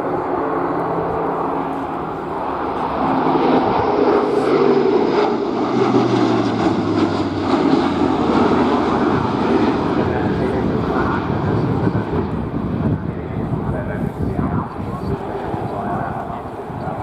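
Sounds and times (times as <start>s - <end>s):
turboprop engines droning: 0.0s - 17.0s.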